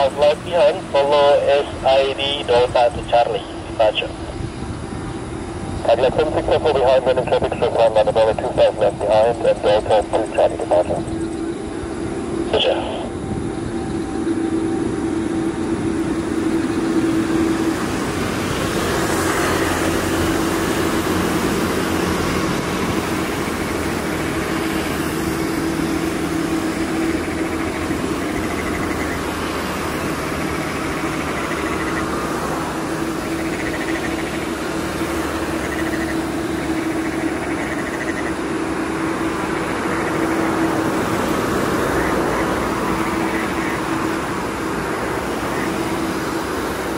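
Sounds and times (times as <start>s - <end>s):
jet engines running: 0.0s - 46.9s.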